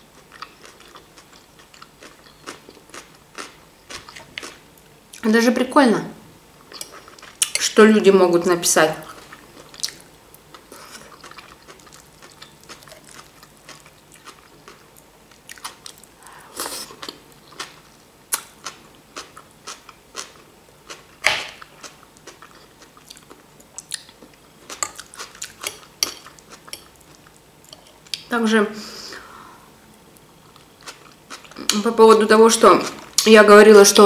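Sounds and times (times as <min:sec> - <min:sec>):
chewing crisp salad: 0:00.1 - 0:05.3, 0:06.7 - 0:07.8, 0:09.0 - 0:28.3, 0:30.2 - 0:33.3.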